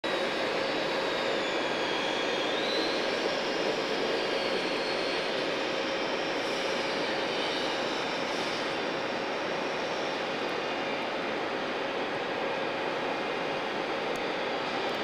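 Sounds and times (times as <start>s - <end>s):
mechanical hum: 0.1s - 15.0s.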